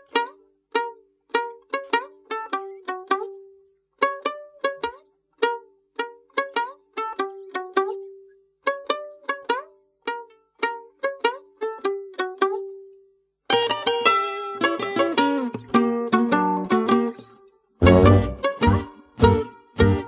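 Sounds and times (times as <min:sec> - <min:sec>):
plucked-string background music: 0:00.0 - 0:20.0.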